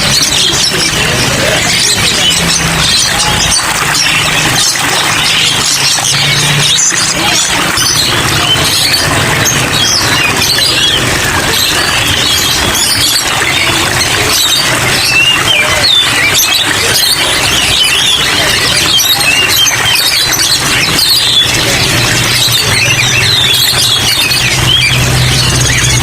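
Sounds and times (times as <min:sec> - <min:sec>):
songbirds chirping and twittering: 0:00.0 - 0:26.0.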